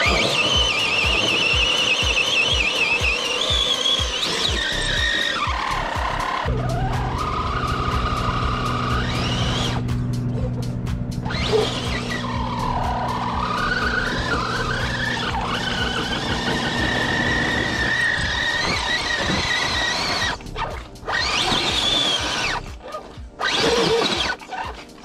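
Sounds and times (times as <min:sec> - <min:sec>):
rc car motor whining: 0:00.0 - 0:09.9, 0:11.2 - 0:25.0.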